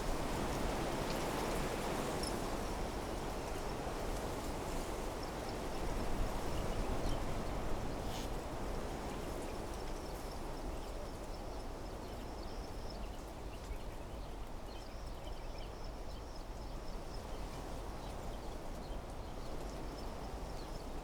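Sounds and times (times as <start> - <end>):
wind rustling through trees: 0.0 - 21.0.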